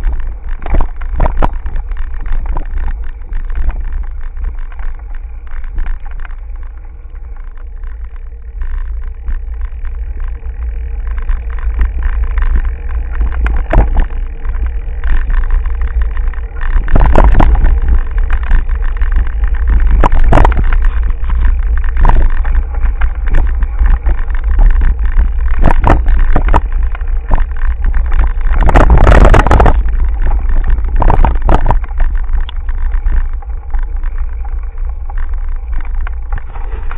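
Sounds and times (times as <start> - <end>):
bike knocks and rattles: 0.0 - 36.9
wind buffeting microphone: 0.0 - 36.9.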